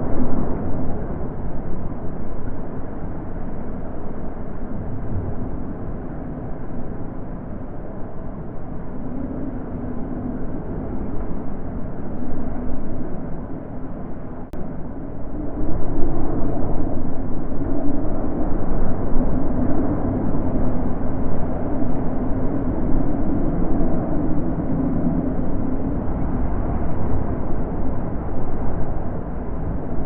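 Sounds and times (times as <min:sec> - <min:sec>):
deep rushing wind: 0:00.0 - 0:30.0.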